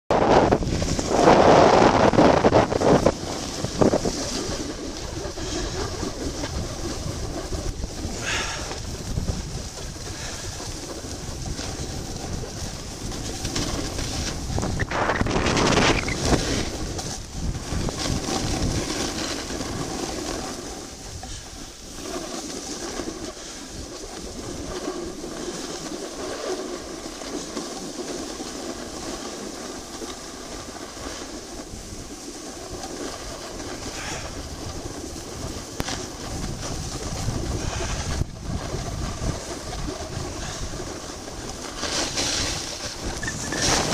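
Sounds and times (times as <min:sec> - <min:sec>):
skis scraping on packed snow: 0:00.1 - 0:43.9
wind rushing over microphone: 0:00.1 - 0:43.9.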